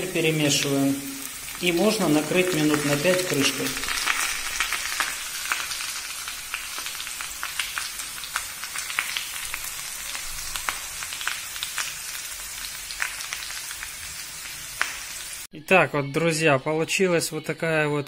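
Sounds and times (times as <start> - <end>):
potatoes sizzling in a pan: 0.0 - 15.5.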